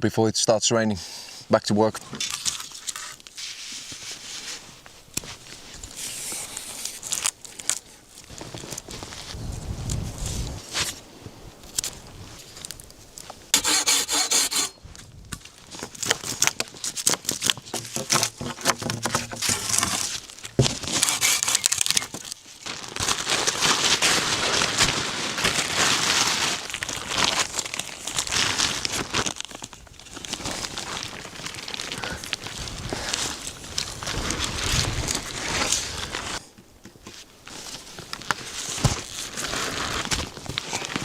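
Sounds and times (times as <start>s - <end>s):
material crinkling and rustling: 2.1s - 13.5s, 14.9s - 41.0s.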